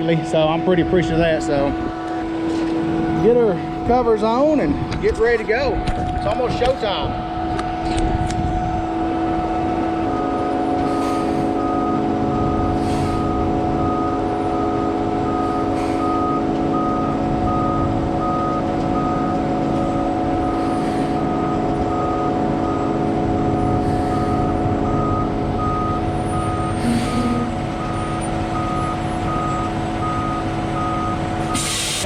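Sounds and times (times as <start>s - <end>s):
diesel truck engines running: 0.0s - 32.0s
truck reversing alarm beeping: 0.0s - 32.0s.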